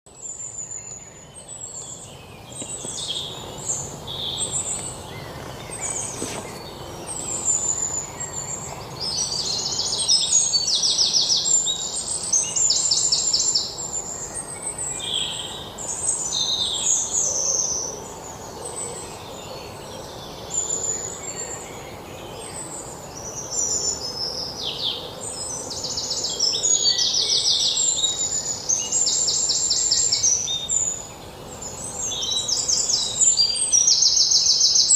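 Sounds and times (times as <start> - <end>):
birds singing with trills: 0.1 - 34.9
low background noise: 0.1 - 34.9.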